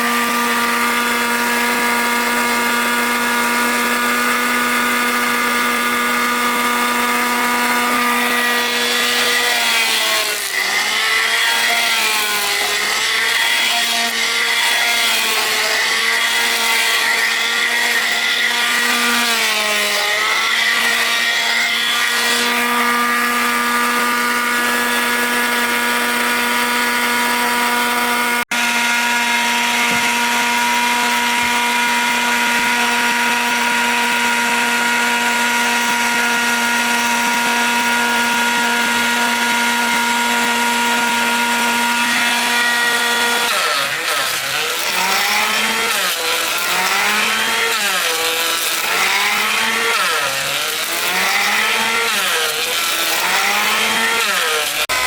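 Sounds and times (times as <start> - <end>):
power tool motor running: 0.0 - 55.0.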